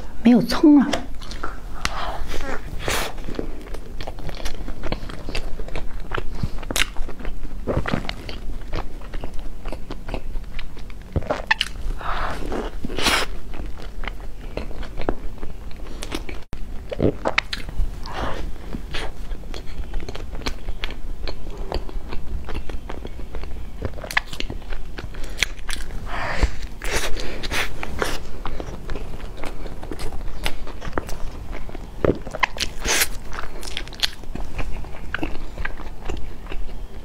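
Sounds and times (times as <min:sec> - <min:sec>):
person chewing bread: 0:01.1 - 0:37.0.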